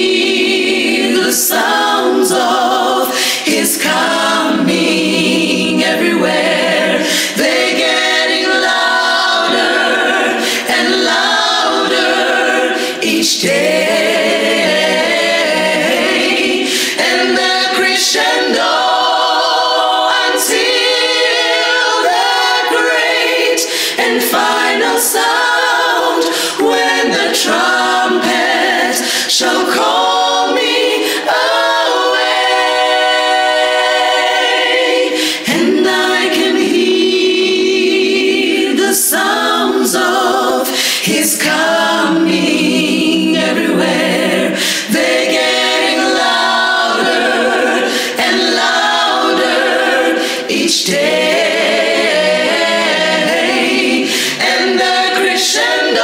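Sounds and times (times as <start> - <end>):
women singing a cappella gospel: 0.0 - 56.0.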